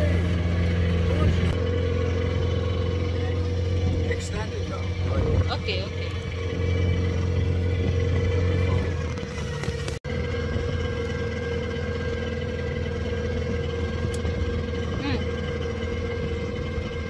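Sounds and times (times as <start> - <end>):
boat engine drone: 0.0 - 17.0
high engine whine: 0.0 - 17.0.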